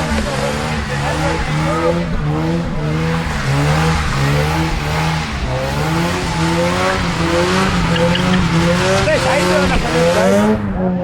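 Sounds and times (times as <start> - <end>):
tire squeal: 0.0 - 10.4
car engine at high revs: 0.0 - 11.0.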